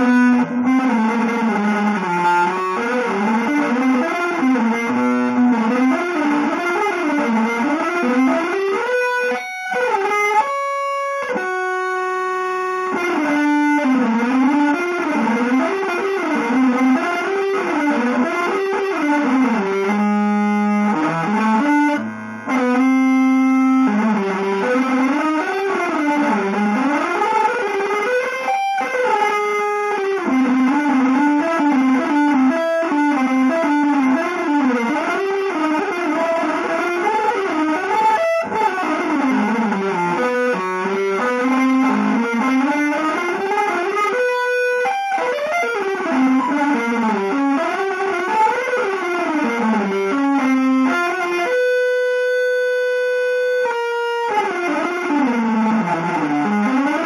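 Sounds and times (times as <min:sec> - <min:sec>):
electric guitar playing: 0:00.0 - 0:57.0.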